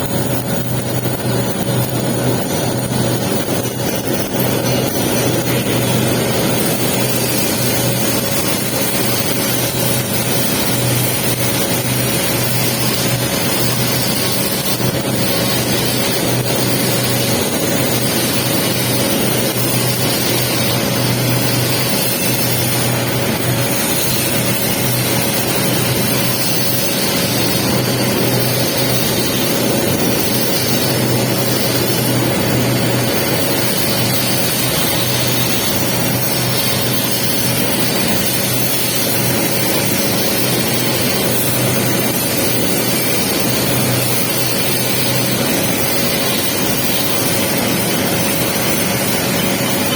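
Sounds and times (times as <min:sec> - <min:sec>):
welding arc crackling hiss: 0:00.0 - 0:49.9.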